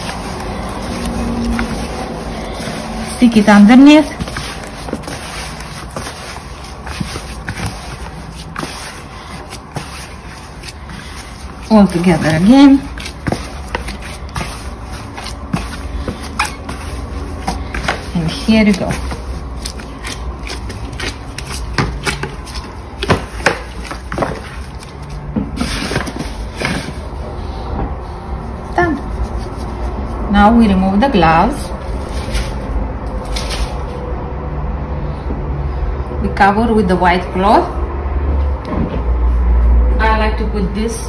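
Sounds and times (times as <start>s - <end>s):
hands kneading dough: 0.0s - 34.0s.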